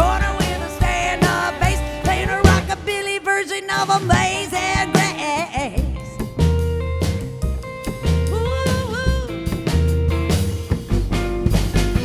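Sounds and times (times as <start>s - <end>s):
bass notes: 0.0s - 3.0s, 4.1s - 12.0s
drum kit beat: 0.0s - 12.0s
rockabilly band instrumental: 0.0s - 12.0s.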